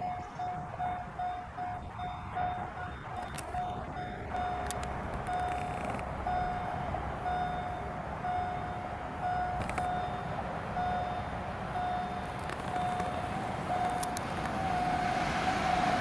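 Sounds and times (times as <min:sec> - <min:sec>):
railway warning signal beeping: 0:00.0 - 0:16.0.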